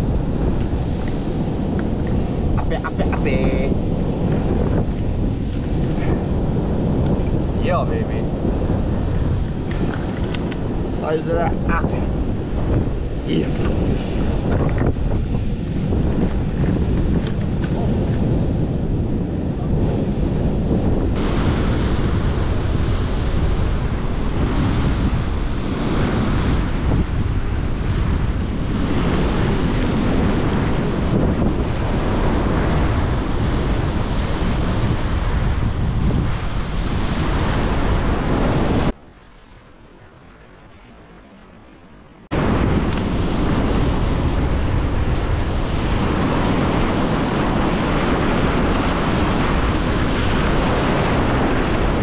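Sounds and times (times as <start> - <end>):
surf washing in: 0.0 - 52.0
wind buffeting microphone: 0.0 - 52.0.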